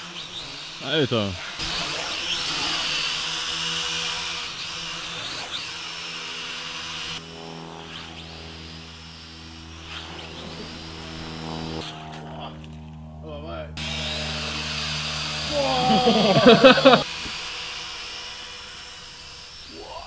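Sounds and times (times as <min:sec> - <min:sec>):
drone propellers buzzing: 0:00.0 - 0:19.8.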